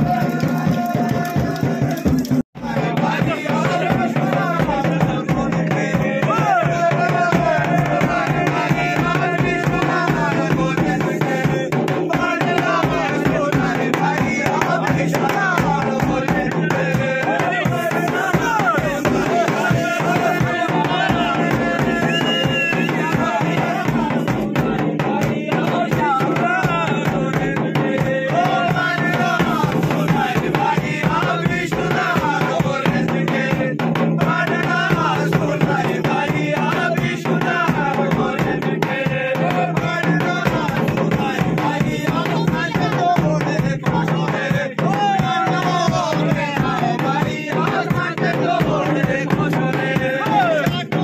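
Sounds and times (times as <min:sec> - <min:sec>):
quick drum beat: 0:00.0 - 0:51.0.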